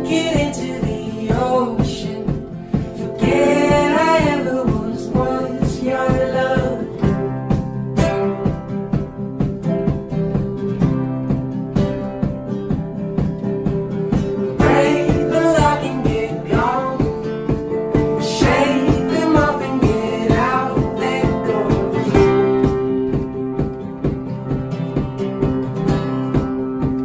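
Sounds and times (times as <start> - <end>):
strummed acoustic guitar: 0.0 - 27.0.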